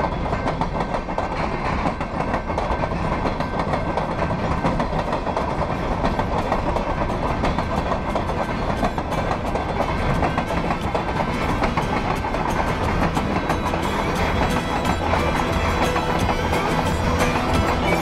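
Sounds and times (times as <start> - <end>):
steel wheels rumbling on rail: 0.0 - 18.0
wheels and couplings clanking: 0.0 - 18.0.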